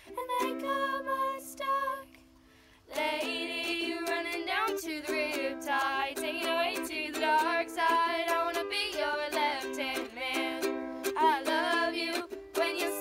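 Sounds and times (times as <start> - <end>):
strummed ukulele: 0.0 - 2.1, 2.9 - 13.0
girls singing a duet: 0.0 - 2.2, 2.8 - 13.0.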